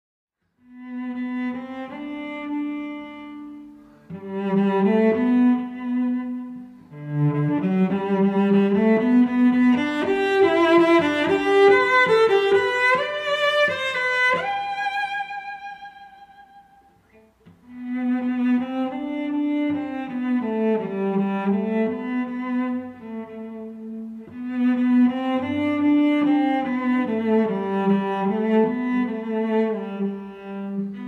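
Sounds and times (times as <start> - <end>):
bowed strings slow melody: 0.6 - 31.0.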